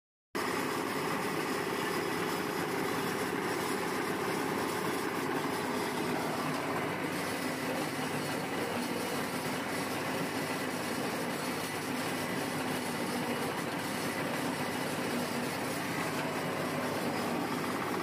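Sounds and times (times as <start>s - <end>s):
hydraulic press humming: 0.4s - 18.0s.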